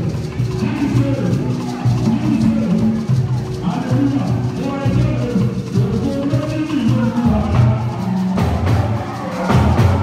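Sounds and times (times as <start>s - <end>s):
gospel band music: 0.0s - 10.0s.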